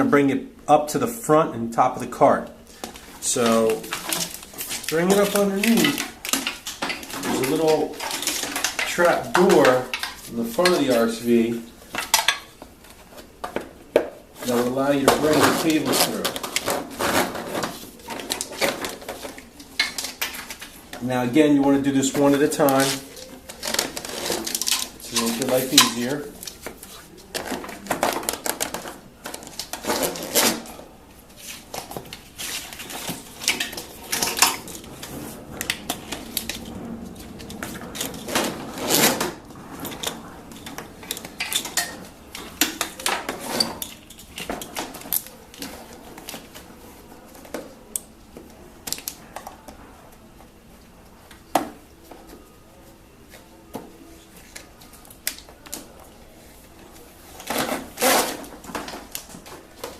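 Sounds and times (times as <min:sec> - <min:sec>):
rustling: 0:02.6 - 0:59.9
cables and plastic connectors rattling: 0:02.7 - 0:50.6, 0:53.3 - 0:59.9.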